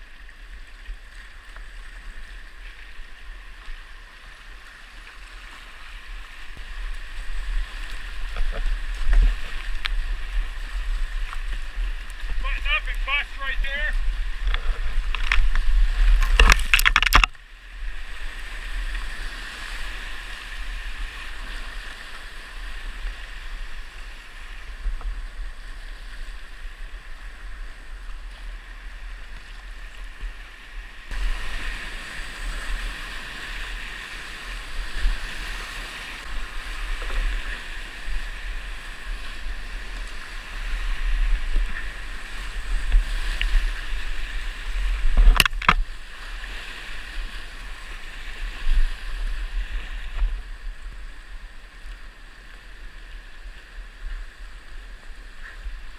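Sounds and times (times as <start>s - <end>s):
rushing whitewater creek: 0.0s - 24.9s, 26.2s - 55.9s.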